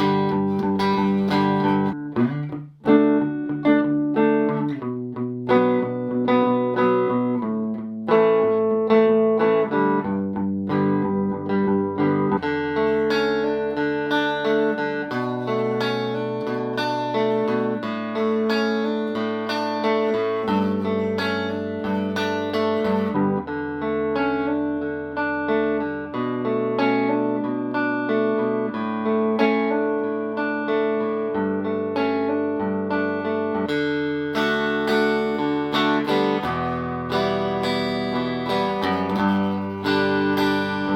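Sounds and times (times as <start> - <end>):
clean electric guitar chords: 0.0 - 40.9.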